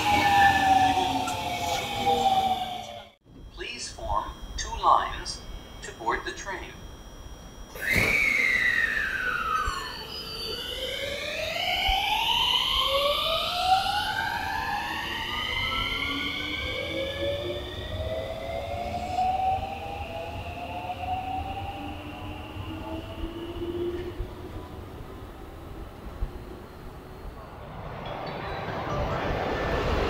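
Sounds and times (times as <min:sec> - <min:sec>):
electric train motors whining: 0:00.0 - 0:27.4.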